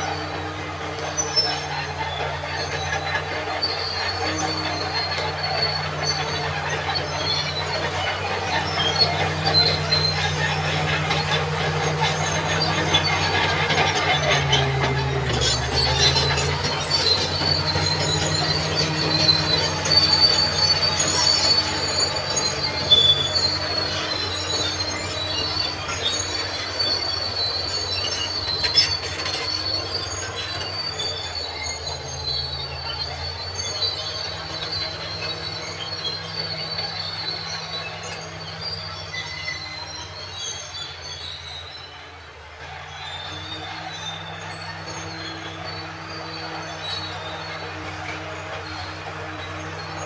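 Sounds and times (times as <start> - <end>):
bulldozer diesel engine running: 0.0 - 50.0
steel tracks squealing and clanking: 0.0 - 50.0.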